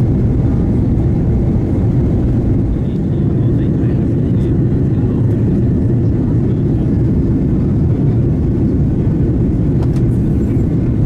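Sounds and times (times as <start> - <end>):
airliner cabin engine noise: 0.0 - 11.0.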